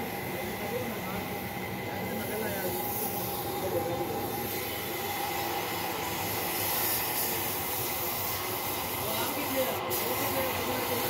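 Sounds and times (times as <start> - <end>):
paint spray gun hissing: 0.0 - 11.0.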